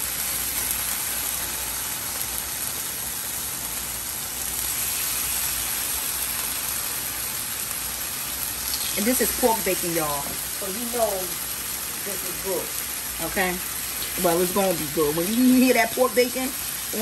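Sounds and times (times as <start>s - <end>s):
bacon sizzling in a frying pan: 0.0s - 17.0s.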